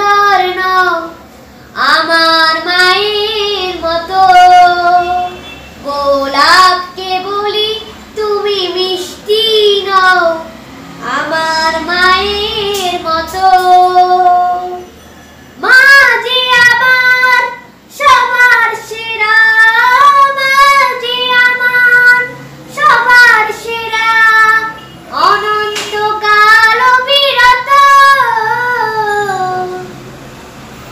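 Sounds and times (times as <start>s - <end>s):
boy singing: 0.0s - 14.9s, 15.6s - 30.0s.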